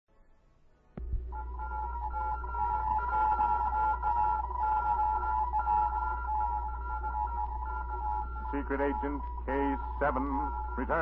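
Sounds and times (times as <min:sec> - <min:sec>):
low recording hum: 0:00.1 - 0:11.0
high steady tones: 0:01.0 - 0:11.0.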